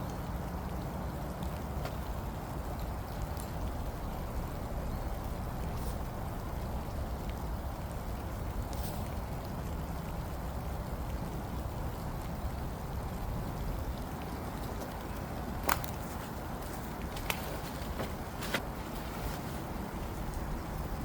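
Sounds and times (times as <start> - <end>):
rain: 0.0 - 21.0.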